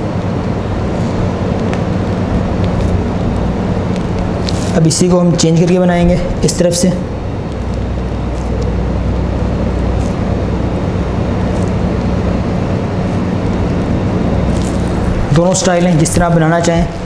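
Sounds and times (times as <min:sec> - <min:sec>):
low background hum and rumble: 0:00.0 - 0:17.0.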